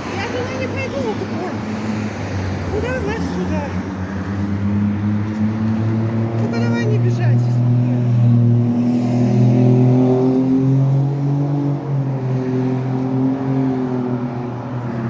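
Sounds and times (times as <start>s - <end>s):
vehicle engine humming: 0.0s - 12.2s.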